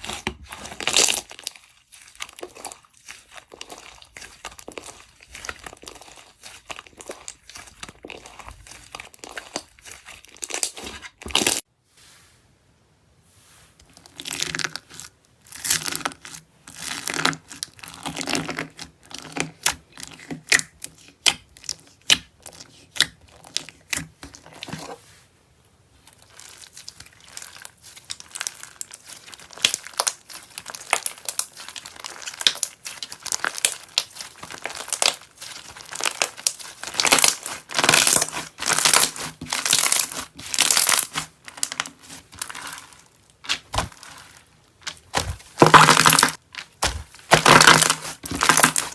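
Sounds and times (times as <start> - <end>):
dense crinkling and crackling: 0.0 - 11.7, 13.8 - 25.3, 25.9 - 48.9.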